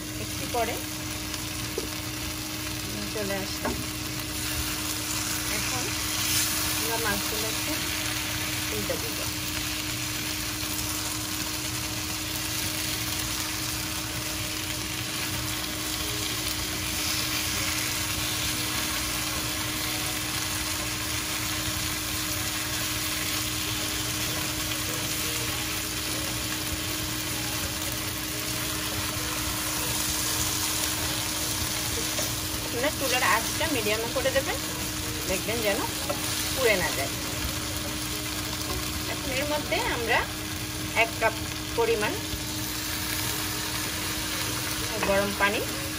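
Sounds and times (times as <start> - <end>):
fish sizzling in a pan: 0.0 - 45.9.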